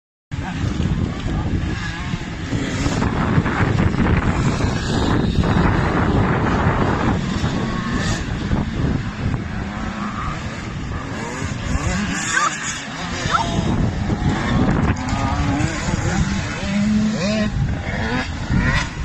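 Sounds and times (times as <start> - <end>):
motorcycle engines running: 0.3 - 19.0
wind buffeting microphone: 0.3 - 19.0.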